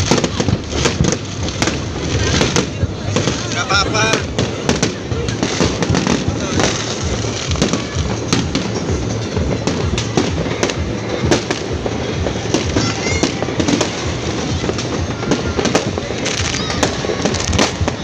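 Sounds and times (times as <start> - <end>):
fireworks bangs and crackles: 0.0 - 18.0
rumble of fireworks bursts: 0.0 - 18.0.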